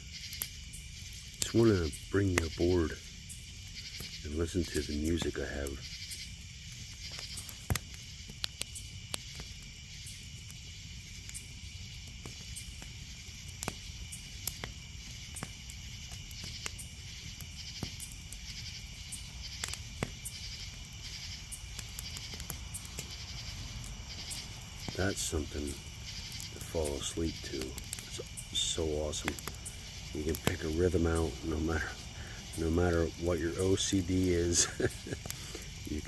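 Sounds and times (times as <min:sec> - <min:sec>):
campfire crackling and popping: 0:00.0 - 0:36.0
insects chirping: 0:00.0 - 0:36.0.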